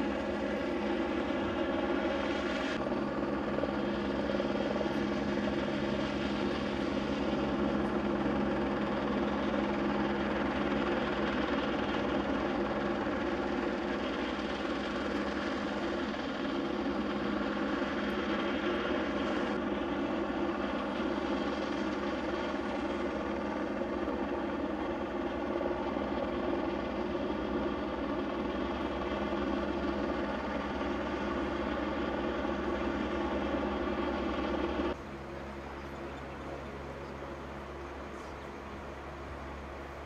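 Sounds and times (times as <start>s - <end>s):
helicopter drone: 0.0s - 40.0s.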